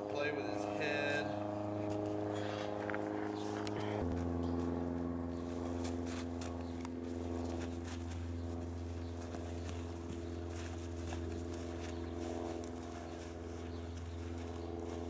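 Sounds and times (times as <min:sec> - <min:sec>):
low machine hum: 0:00.0 - 0:15.0
horse hooves on sand: 0:00.5 - 0:15.0.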